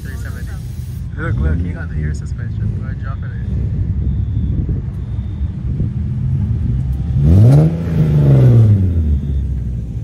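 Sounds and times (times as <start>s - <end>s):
idling cars rumble: 0.0s - 10.0s
car engine revving: 1.2s - 10.0s.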